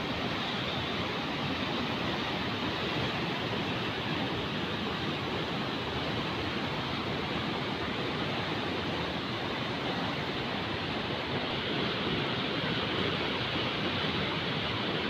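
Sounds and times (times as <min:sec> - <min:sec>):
floodwater rushing over spillway: 0:00.0 - 0:15.0.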